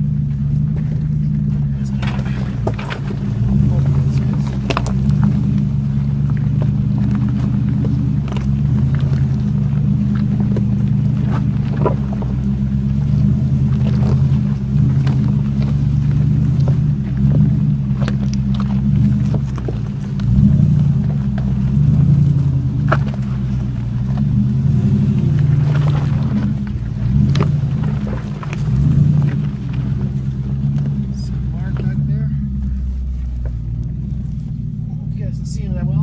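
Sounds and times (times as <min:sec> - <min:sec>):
knocks and rattles from bumps: 0:00.0 - 0:35.1
vehicle engine running at low revs: 0:00.0 - 0:36.0.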